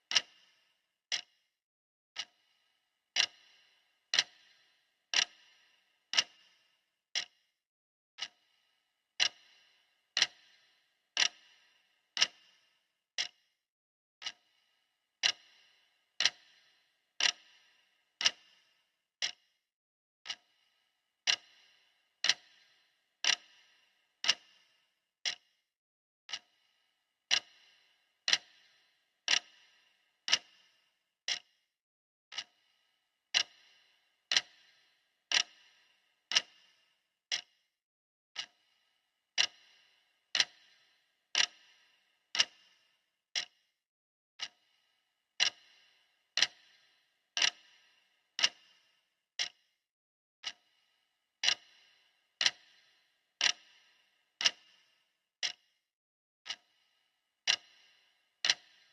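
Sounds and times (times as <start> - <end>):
timer ticking: 0.0 - 1.3, 2.2 - 7.3, 8.2 - 12.6, 14.2 - 19.5, 20.2 - 25.6, 26.3 - 31.6, 32.3 - 37.7, 38.4 - 43.7, 44.4 - 49.8, 50.4 - 55.7, 56.5 - 58.9.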